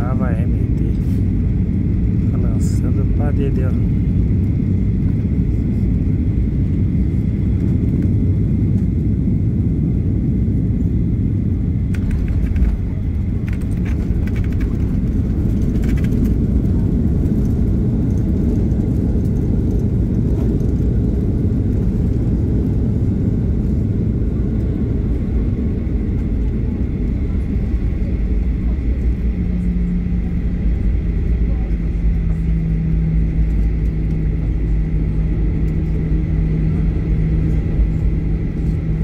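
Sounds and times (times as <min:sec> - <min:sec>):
airplane cabin rumble: 0:00.0 - 0:39.0.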